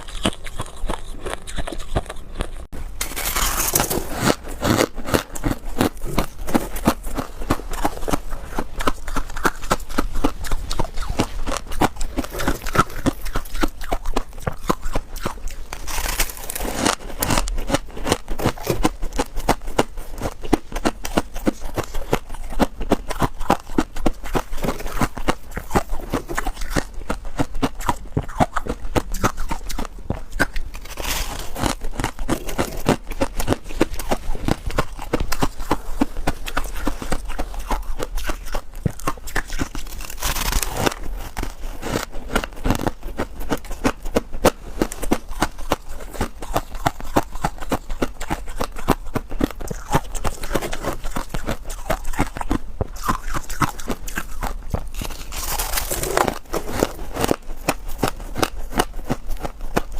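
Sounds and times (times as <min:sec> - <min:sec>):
frost being chewed crunching: 0:00.0 - 0:59.9.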